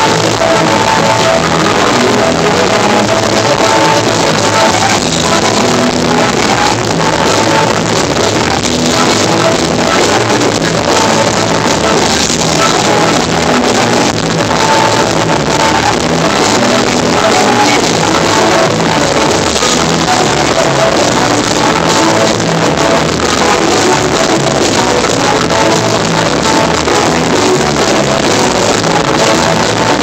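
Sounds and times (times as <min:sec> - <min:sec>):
drums: 0:00.0 - 0:30.0.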